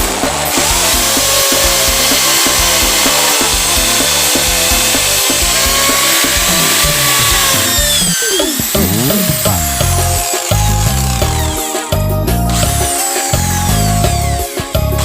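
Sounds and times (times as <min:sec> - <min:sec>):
electric drill whining: 0:00.0 - 0:14.9
background music with steady beat: 0:00.0 - 0:15.0.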